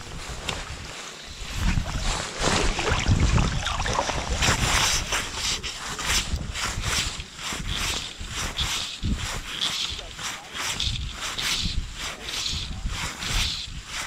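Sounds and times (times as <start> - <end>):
wind rumbling on microphone: 0.0 - 14.0
small waves lapping: 0.2 - 12.4.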